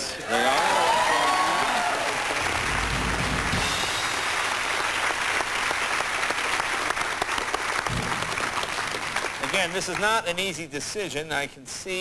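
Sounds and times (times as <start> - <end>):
audience applauding: 0.3 - 10.2.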